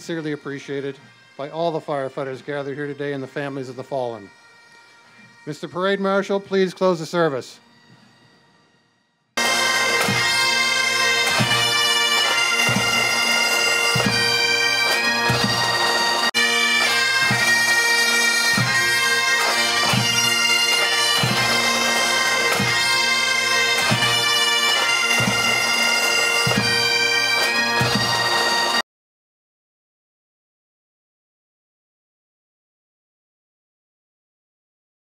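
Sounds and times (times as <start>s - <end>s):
bagpipes over drones: 0.0s - 28.8s.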